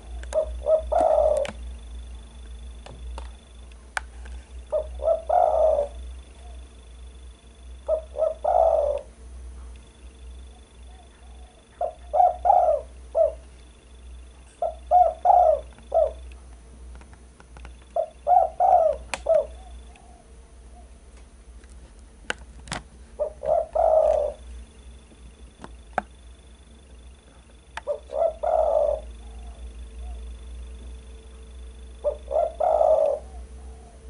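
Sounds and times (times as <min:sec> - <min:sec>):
dove cooing: 0:00.0 - 0:02.3, 0:04.4 - 0:16.3, 0:17.8 - 0:21.1, 0:23.1 - 0:34.0.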